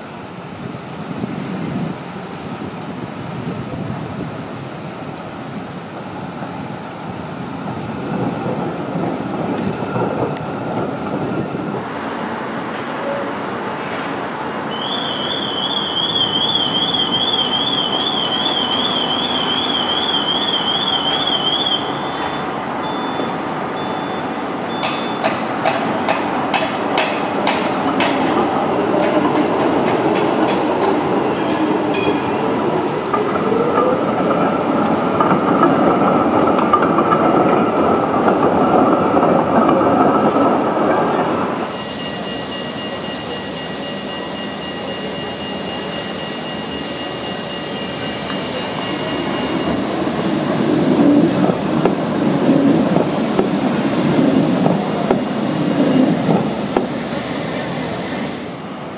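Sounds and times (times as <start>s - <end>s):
city traffic: 0.0s - 58.9s
tram rolling noise: 0.0s - 58.9s.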